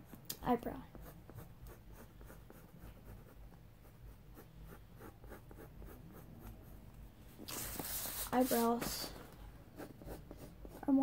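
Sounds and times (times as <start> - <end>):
pencil scratching on paper: 0.8 - 6.9, 7.5 - 11.0.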